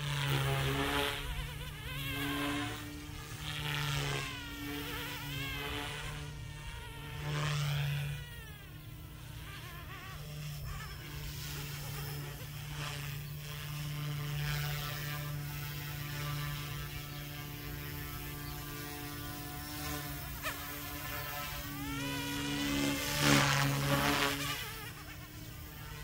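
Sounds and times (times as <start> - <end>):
rc helicopter rotor whine: 0.0 - 26.0.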